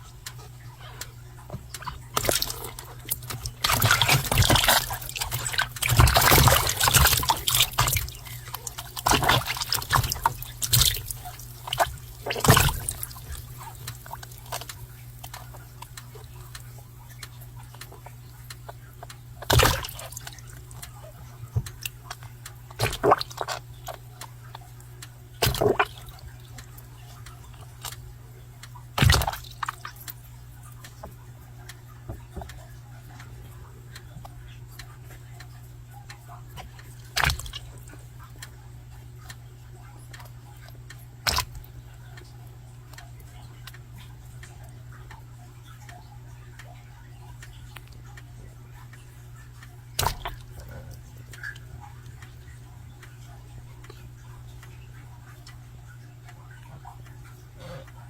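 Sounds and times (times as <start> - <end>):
steady low hum: 0.0 - 58.0
water splashing and sloshing: 0.0 - 58.0.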